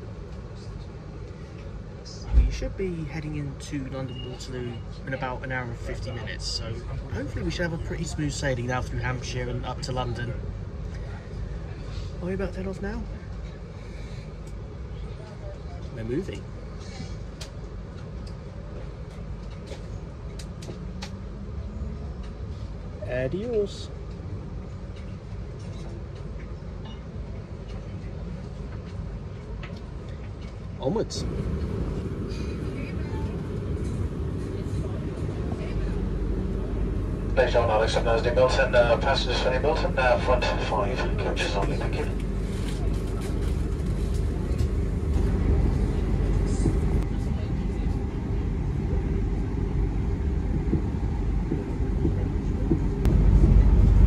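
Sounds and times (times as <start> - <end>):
electric train rumble: 0.0 - 54.0.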